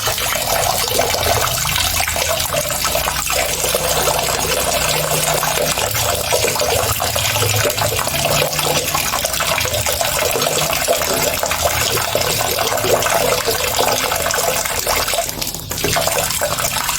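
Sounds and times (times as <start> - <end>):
running water rushing: 0.0 - 16.9.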